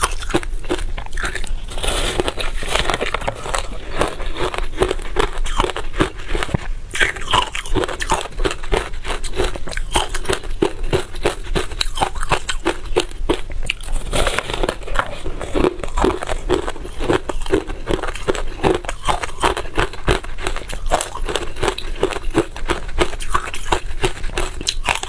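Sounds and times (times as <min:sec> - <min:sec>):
frost being chewed crunchily: 0:00.0 - 0:25.0.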